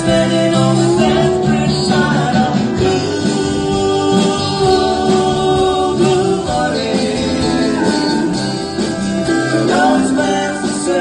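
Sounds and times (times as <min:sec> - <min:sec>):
country band music: 0:00.0 - 0:11.0
several voices singing: 0:00.0 - 0:11.0.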